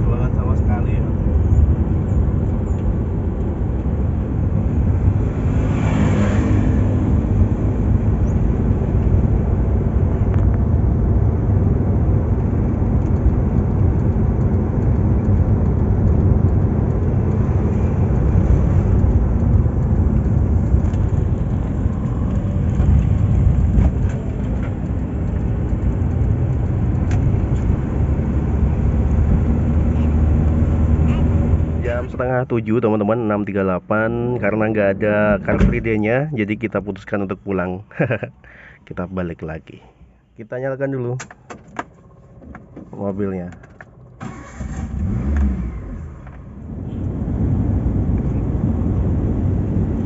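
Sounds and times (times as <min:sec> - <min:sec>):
road vehicle rumble: 0:00.0 - 0:50.0.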